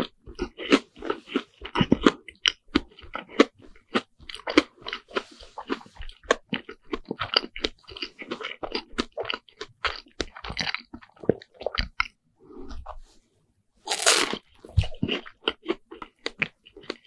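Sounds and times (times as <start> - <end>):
chewing crunchy fried bread: 0.0 - 13.0, 13.9 - 17.0.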